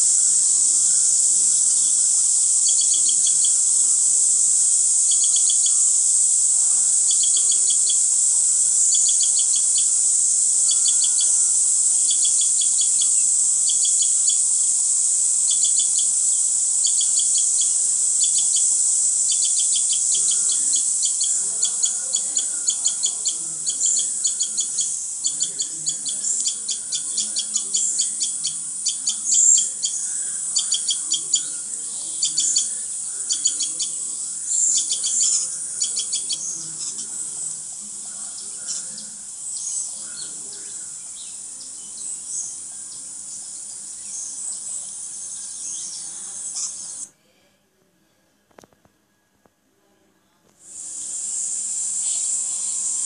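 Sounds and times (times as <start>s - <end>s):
small birds chirping: 0.0s - 47.1s, 50.6s - 53.0s
steady high hiss: 0.0s - 47.4s, 49.8s - 53.0s.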